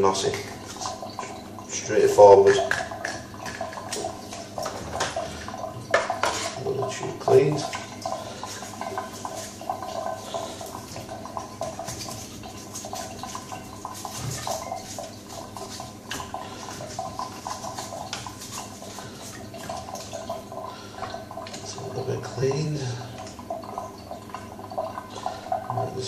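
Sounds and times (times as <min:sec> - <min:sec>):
water running in metal sink: 0:00.0 - 0:26.0.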